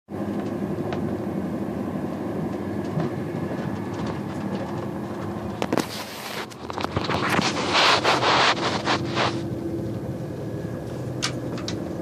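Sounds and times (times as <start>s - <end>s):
train rumble inside carriage: 0.1s - 12.0s.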